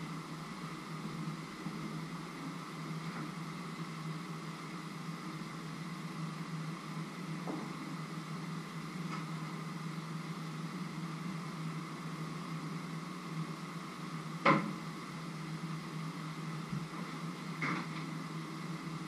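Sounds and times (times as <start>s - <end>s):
kitchen hum and hiss: 0.0s - 19.0s.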